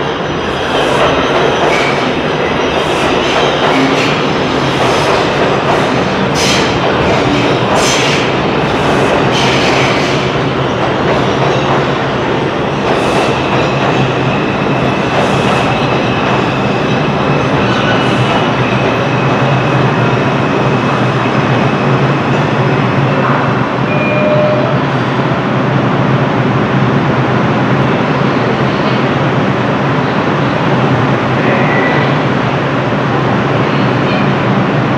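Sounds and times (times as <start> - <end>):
train wheels rumbling: 0.0 - 34.9.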